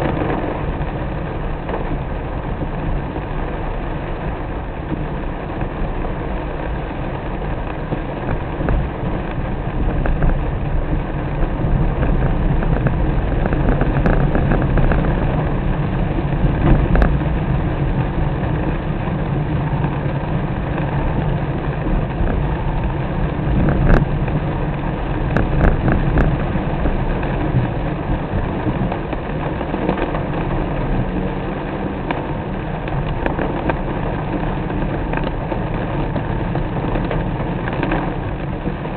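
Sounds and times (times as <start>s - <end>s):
engine and road rumble: 0.0s - 38.9s
rain hissing: 0.0s - 38.9s.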